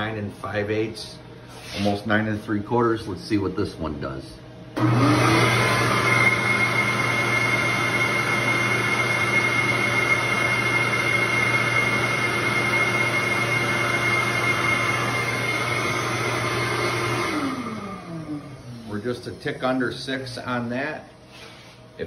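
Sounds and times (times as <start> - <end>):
shop vacuum whining: 0.0 - 22.0.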